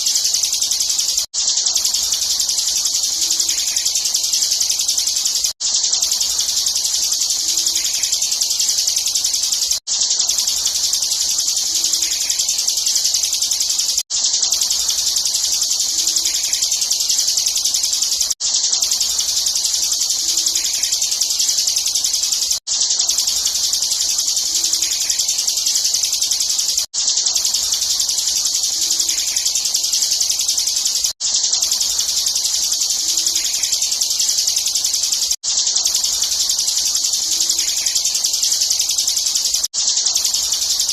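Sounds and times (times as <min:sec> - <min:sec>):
bird singing high chatter: 0:00.0 - 0:40.9.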